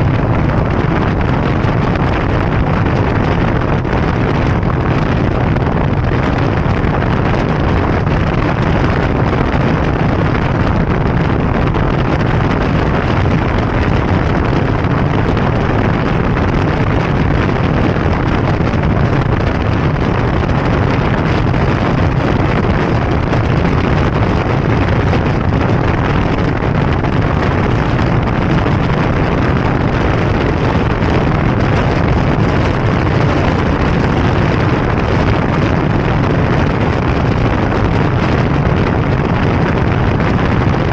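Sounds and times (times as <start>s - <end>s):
motorbike engine and road roar: 0.0s - 40.9s
wind rushing on microphone: 0.0s - 40.9s.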